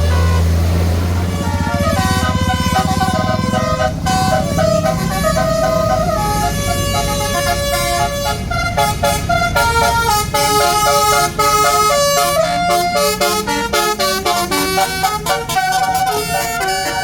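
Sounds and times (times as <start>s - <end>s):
bus engine rumble: 0.0s - 17.0s
bus horn playing a tune: 0.0s - 17.0s.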